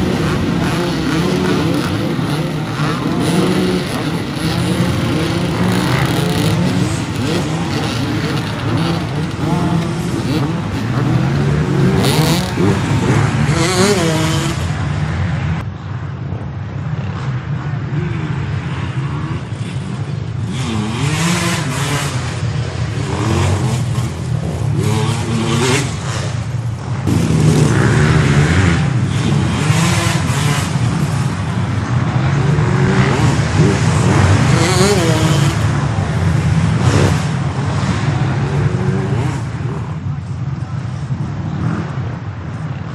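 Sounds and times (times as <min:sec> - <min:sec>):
dirt bike engines revving: 0:00.0 - 0:42.9.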